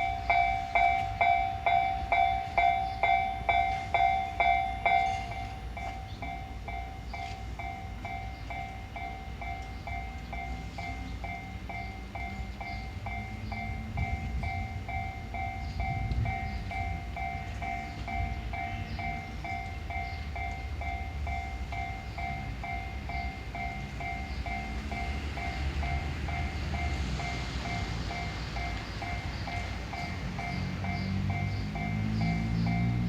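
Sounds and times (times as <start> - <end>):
railroad crossing electronic bell: 0.0 - 33.0.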